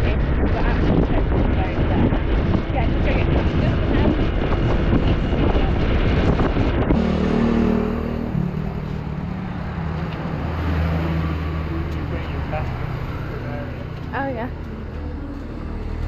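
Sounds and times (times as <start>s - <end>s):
wind buffeting microphone: 0.0s - 15.2s
vehicle engine running: 0.0s - 16.0s.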